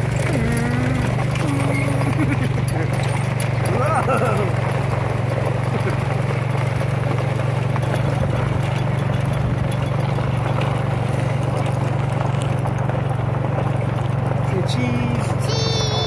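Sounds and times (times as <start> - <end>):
quad bike engine running: 0.0 - 16.0.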